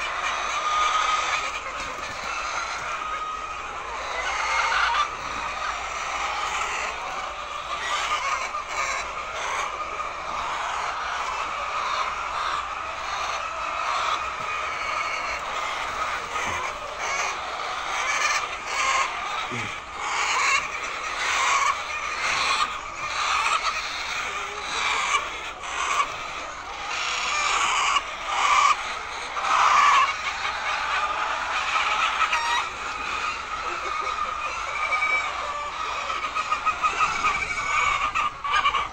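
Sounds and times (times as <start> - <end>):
hens clucking and calling: 0.0 - 38.9.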